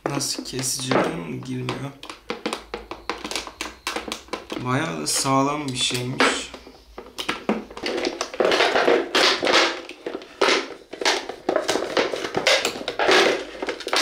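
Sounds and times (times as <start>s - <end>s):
knife rasping through plastic: 0.0s - 14.0s.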